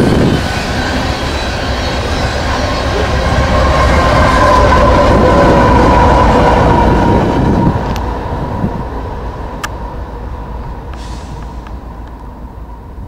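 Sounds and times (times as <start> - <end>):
steel wheels rolling on rails: 0.0 - 12.4
locomotive engines running: 0.0 - 13.0.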